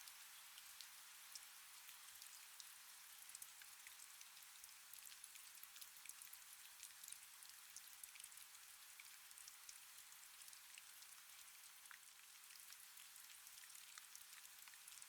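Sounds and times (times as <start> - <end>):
soft rain hiss: 0.0 - 15.0.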